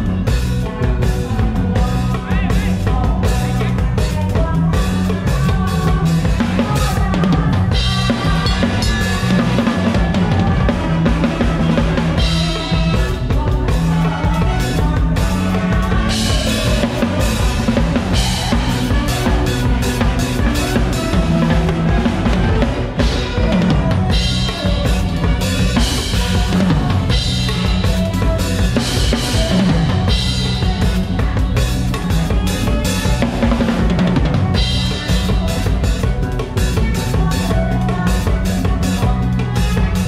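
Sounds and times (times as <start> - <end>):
drum kit playing fast beat: 0.0 - 40.0
electric bass: 0.0 - 40.0.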